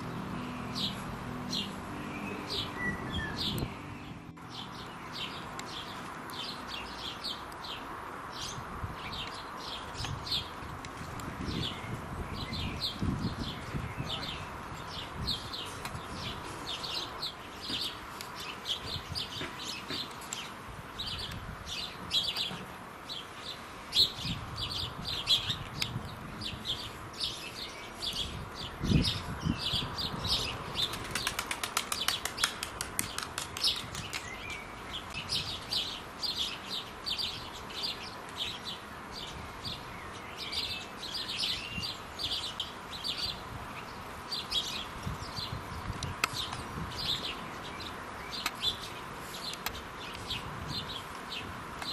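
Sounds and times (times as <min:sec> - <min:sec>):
sparrows chirping: 0:00.0 - 0:51.9.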